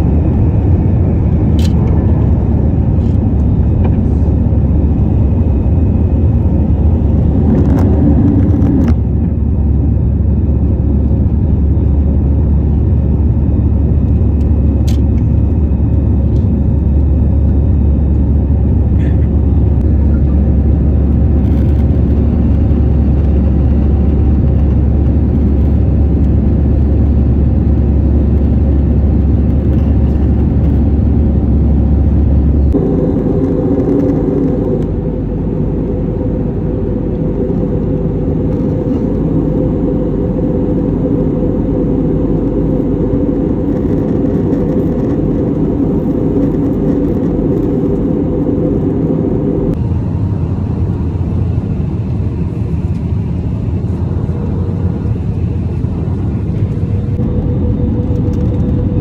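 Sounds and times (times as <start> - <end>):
airliner cabin jet engine drone: 0.0 - 59.0.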